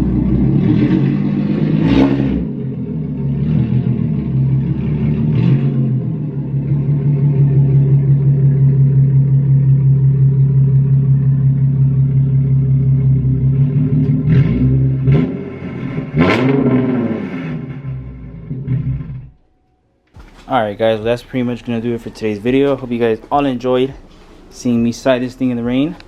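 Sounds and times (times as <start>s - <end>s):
car engine revving: 0.0s - 19.6s, 20.2s - 26.0s
car engine running: 0.0s - 26.0s.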